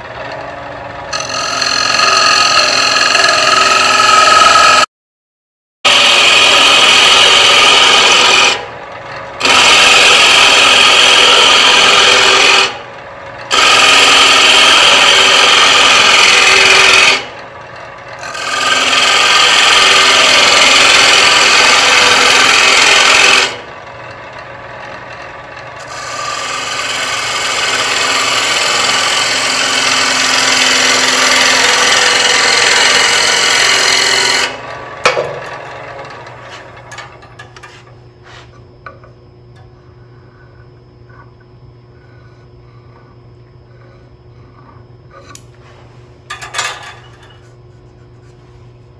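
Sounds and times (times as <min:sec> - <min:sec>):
lathe running: 0:00.0 - 0:04.9, 0:05.9 - 0:45.4.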